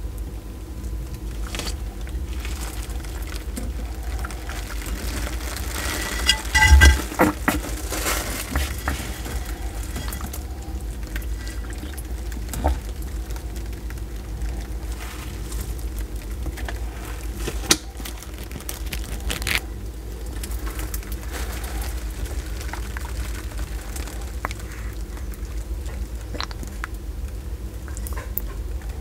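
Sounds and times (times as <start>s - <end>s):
tortoise sipping water: 0.6s - 29.0s.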